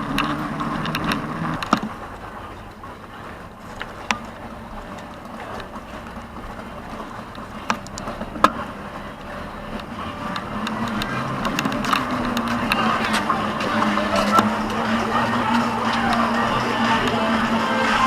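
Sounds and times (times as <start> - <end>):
motorboat engines running: 0.0 - 18.0.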